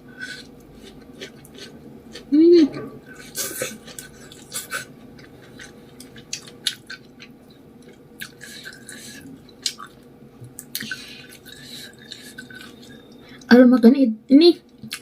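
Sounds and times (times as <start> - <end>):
wet chewing and mouth sounds: 0.2 - 13.2.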